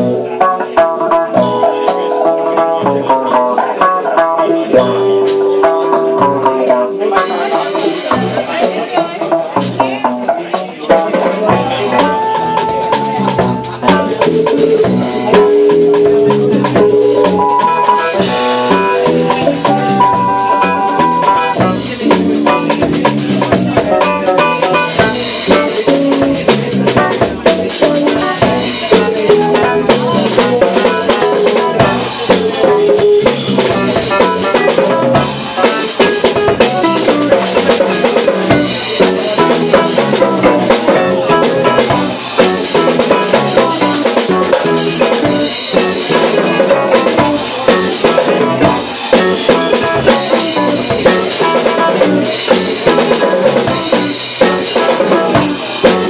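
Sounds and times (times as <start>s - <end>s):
drum kit beat: 0.0s - 56.0s
live band playing: 0.0s - 56.0s.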